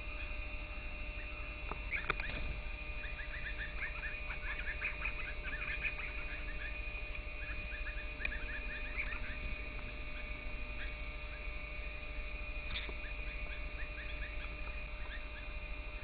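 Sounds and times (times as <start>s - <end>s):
low hum: 0.0s - 16.0s
small birds chirping: 0.0s - 16.0s.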